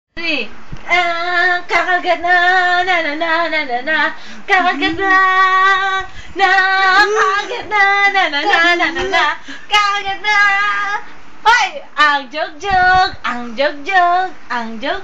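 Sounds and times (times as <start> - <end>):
person singing unaccompanied: 0.8 - 15.0.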